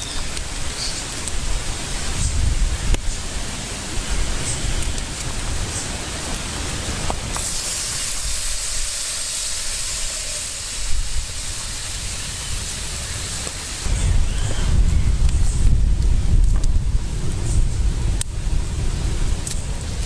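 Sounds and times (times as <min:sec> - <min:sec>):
water hissing in hot oil: 0:00.0 - 0:20.0
wind rumbling on microphone: 0:00.0 - 0:20.0.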